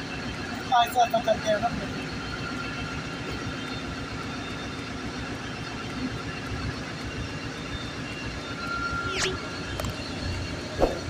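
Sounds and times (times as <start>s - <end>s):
diesel locomotive engine drone: 0.0s - 11.0s
faint whining tones: 0.0s - 11.0s.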